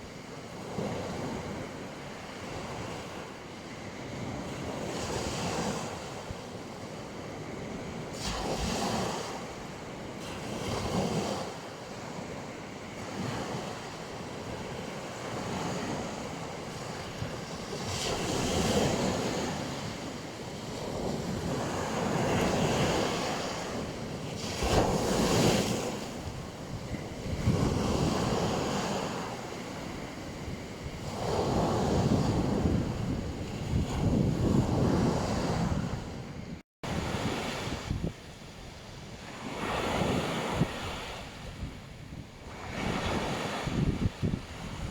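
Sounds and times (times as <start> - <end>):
surf washing onto a beach: 4.3 - 44.9.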